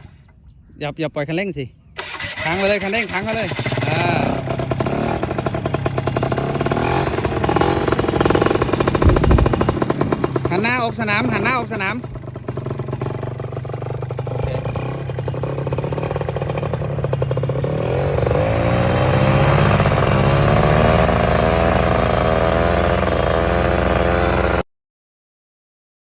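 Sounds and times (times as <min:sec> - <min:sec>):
small plane engine revving: 0:02.0 - 0:24.6.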